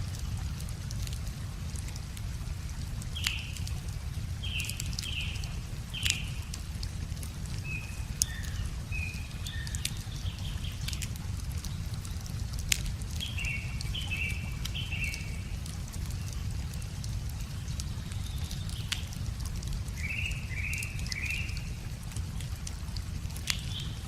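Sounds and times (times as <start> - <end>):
wood fire crackling and popping: 0.0 - 24.0
small birds chirping: 3.0 - 22.6, 23.3 - 24.0.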